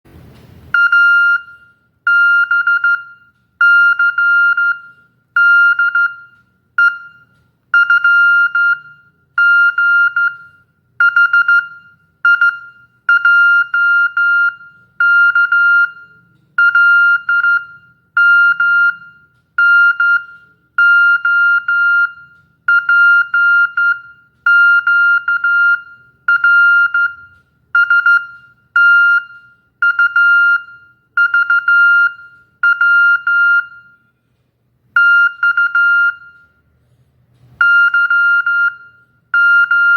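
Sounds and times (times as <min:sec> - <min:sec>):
morse code beeps: 0:00.8 - 0:34.1, 0:35.0 - 0:36.6, 0:37.6 - 0:39.9.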